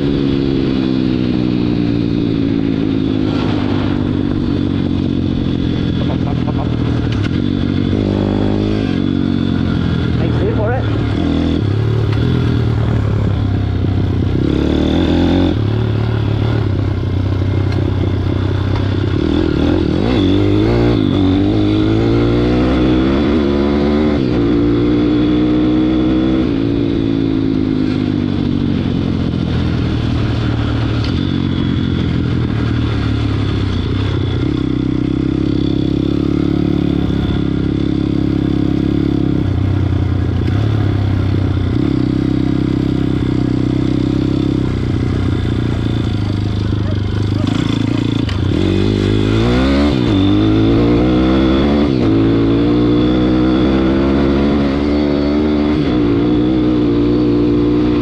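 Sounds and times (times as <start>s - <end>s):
pit bike engine revving: 0.0s - 29.4s, 30.0s - 58.0s.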